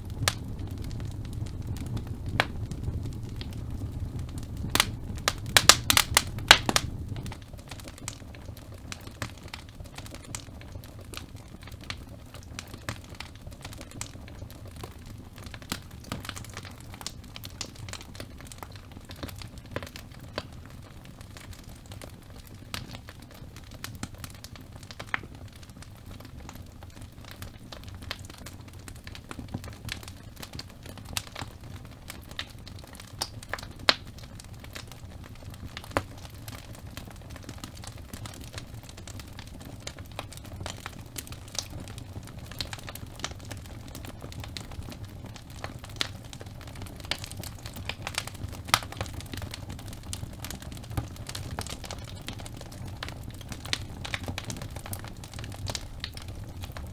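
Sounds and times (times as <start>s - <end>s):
fire crackling and popping: 0.0s - 56.9s
low rumble of flames: 0.0s - 56.9s.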